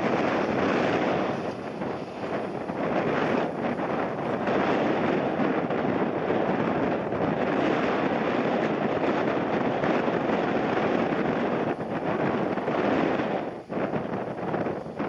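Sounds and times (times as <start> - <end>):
airliner engine rumble: 0.0 - 15.0
wind gusting on microphone: 0.0 - 15.0.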